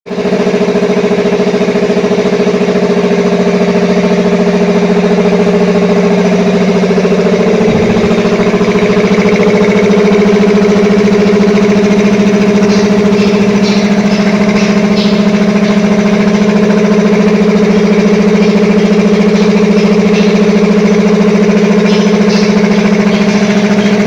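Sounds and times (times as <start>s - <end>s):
air compressor running: 0.1s - 24.0s.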